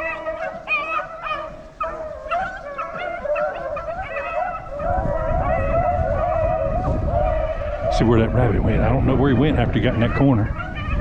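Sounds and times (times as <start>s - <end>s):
hounds baying: 0.0s - 11.0s.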